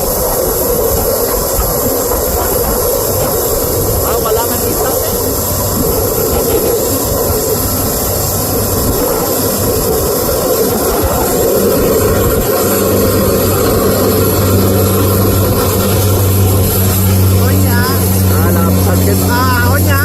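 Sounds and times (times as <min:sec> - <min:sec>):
low propeller drone: 0:00.0 - 0:20.0
turboprop engine running: 0:00.0 - 0:20.0
wind buffeting microphone: 0:00.0 - 0:20.0.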